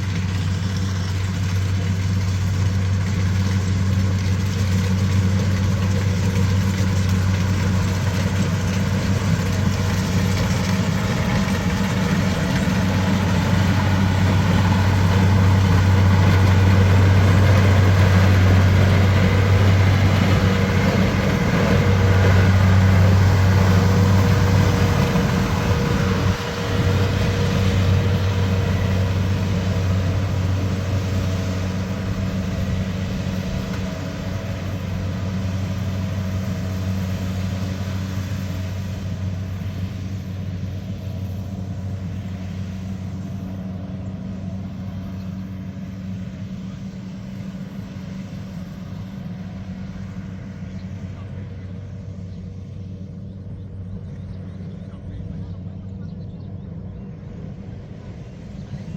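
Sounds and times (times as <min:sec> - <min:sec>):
heavy machine engine droning: 0:00.0 - 0:58.9.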